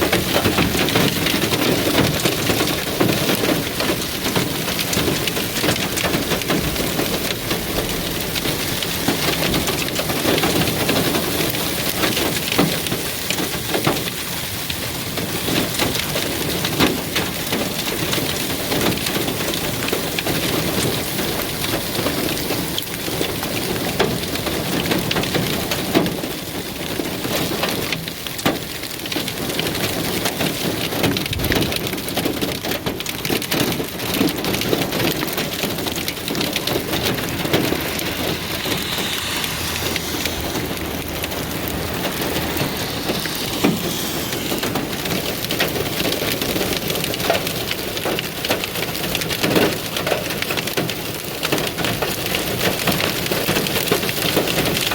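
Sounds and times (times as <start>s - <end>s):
hailstones clicking and knocking: 0.0s - 38.9s, 41.0s - 54.9s
heavy rain downpour: 0.0s - 54.9s.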